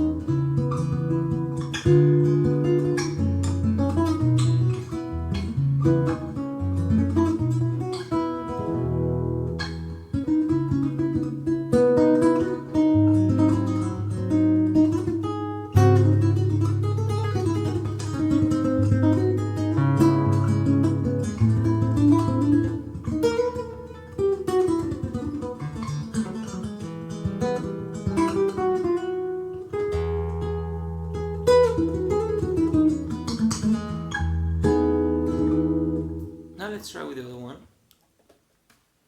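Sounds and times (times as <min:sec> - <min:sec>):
acoustic guitar: 0:00.0 - 0:38.6.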